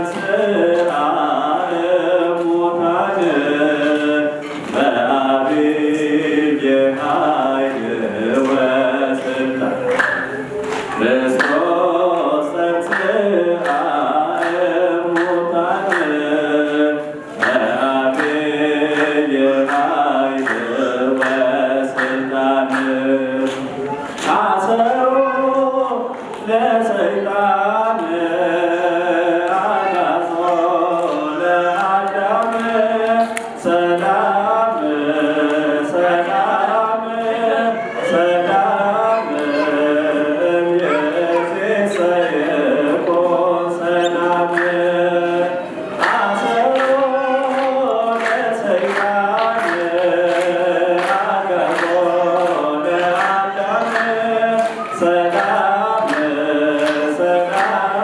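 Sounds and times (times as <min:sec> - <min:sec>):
man singing a hymn: 0:00.0 - 0:58.0.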